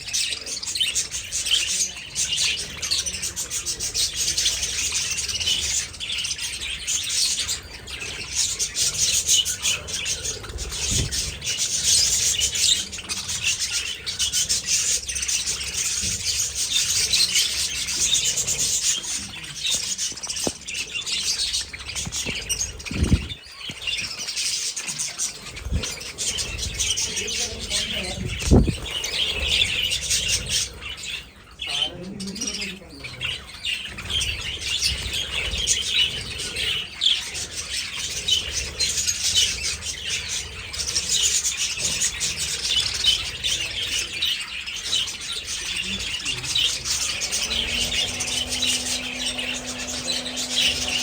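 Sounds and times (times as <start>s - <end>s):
budgerigars chattering and chirping: 0.0s - 51.0s.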